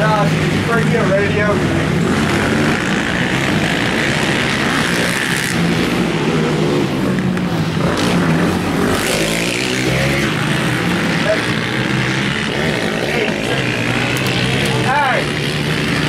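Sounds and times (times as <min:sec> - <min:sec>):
quad engines revving: 0:00.0 - 0:16.0.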